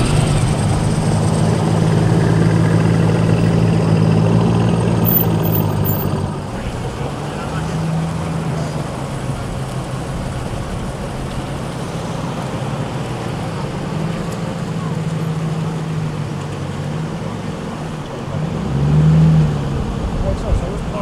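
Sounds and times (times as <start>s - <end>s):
car engine idling: 0.0s - 18.6s, 19.5s - 21.0s.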